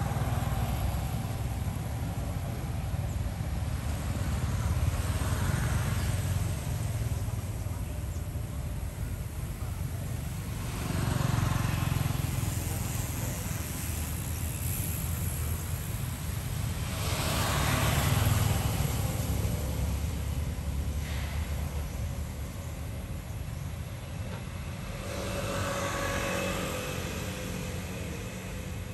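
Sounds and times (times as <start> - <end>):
passing vehicles rumbling: 0.0 - 28.9.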